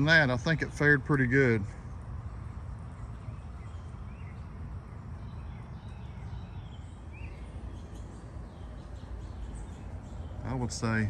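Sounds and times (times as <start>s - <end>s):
steady low rumble: 0.0s - 11.0s
faint bird chirps: 1.6s - 11.0s.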